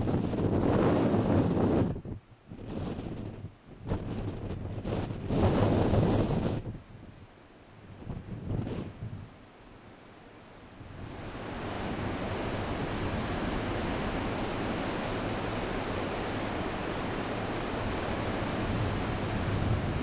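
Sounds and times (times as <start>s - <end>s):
heavy surf waves breaking: 0.0s - 20.0s.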